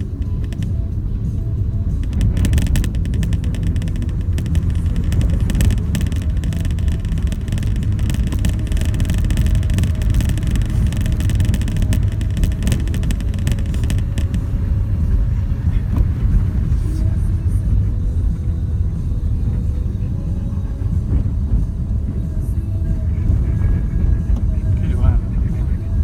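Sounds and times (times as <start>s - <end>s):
car engine and tyres rumbling: 0.0s - 26.0s
crackling noise: 0.0s - 26.0s.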